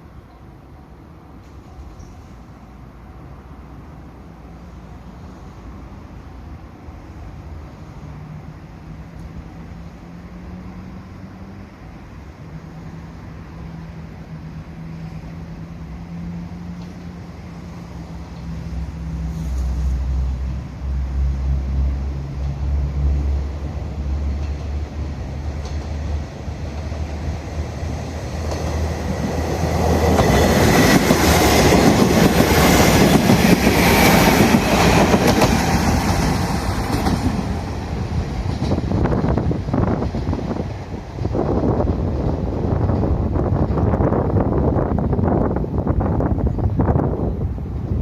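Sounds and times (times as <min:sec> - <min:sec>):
diesel railcar engine: 0:00.0 - 0:48.0
train wheels on rail: 0:00.0 - 0:48.0.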